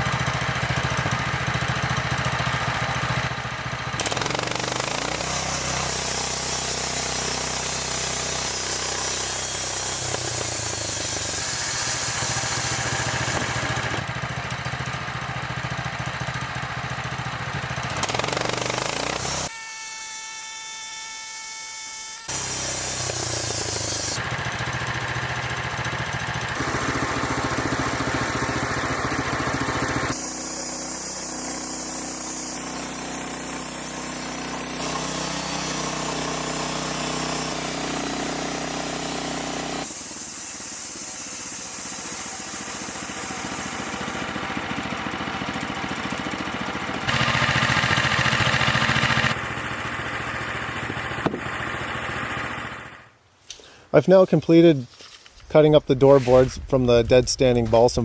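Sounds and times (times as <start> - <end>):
sawmill sawing boards: 0.0 - 58.0.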